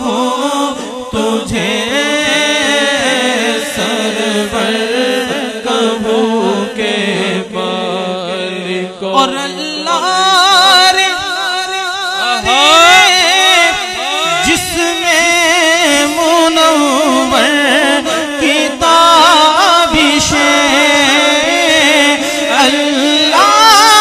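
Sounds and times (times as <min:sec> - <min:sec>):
man singing devotional song: 0:00.0 - 0:24.0.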